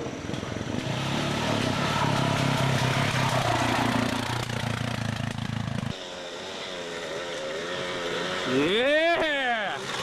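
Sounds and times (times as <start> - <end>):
dirt bike engine running: 0.0 - 8.7.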